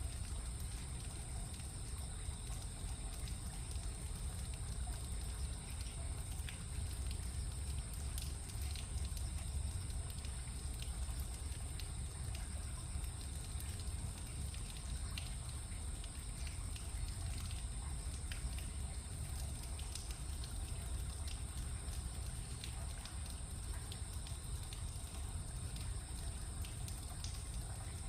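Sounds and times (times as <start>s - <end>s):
constant high-pitched whine: 0.0s - 28.0s
faint ticks: 0.0s - 28.0s.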